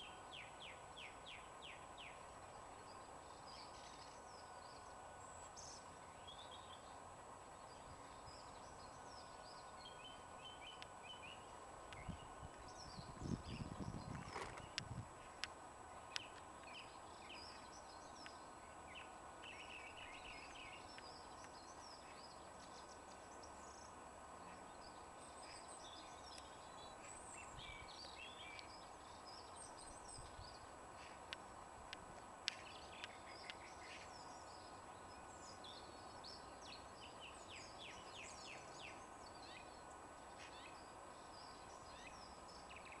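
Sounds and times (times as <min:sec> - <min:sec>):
low background hiss: 0:00.0 - 0:43.0
small birds chirping: 0:00.0 - 0:43.0.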